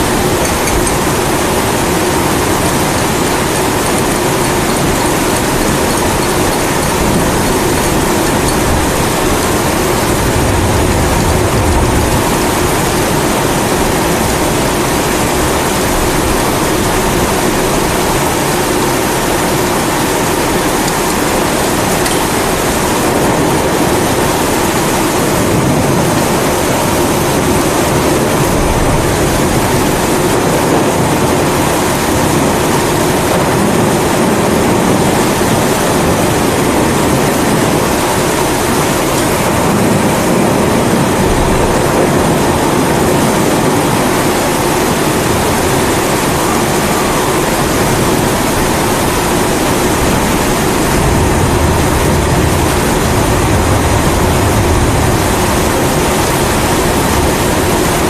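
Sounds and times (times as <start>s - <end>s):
falling rain: 0.0s - 58.0s.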